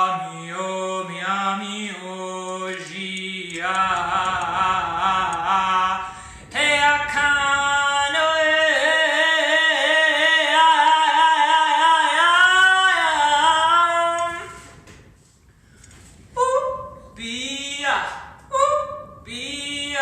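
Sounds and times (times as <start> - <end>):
person singing wordless notes: 0.0 - 14.8, 16.4 - 20.0.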